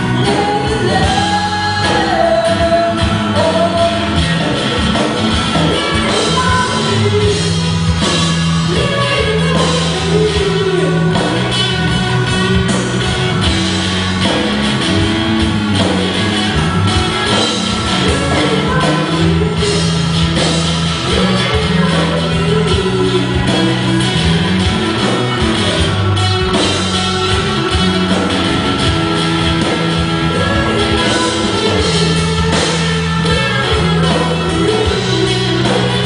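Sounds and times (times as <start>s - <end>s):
woman singing: 0.0s - 13.6s, 17.2s - 25.7s, 29.1s - 36.0s
bass guitar: 0.0s - 36.0s
drum kit: 0.0s - 36.0s
electric guitar: 0.0s - 36.0s
keyboard: 0.0s - 36.0s.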